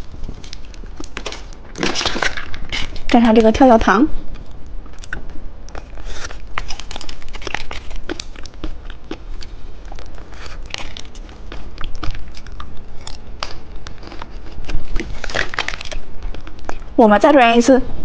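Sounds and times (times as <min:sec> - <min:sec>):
popping candy crackling: 0:00.0 - 0:17.3.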